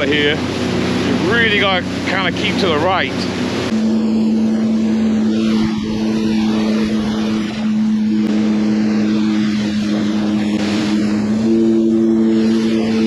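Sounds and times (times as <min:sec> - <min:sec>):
watercraft engine running: 0:00.0 - 0:13.0.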